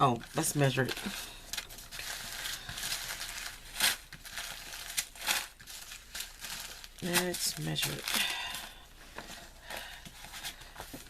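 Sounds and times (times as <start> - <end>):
canvas and plastic film rustling: 0.0 - 11.0.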